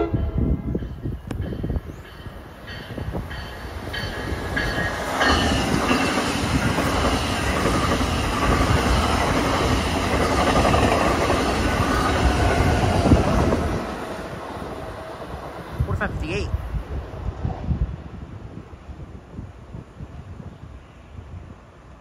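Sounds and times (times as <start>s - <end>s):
train rushing past: 0.0s - 20.9s
faint rail noise: 0.0s - 22.0s.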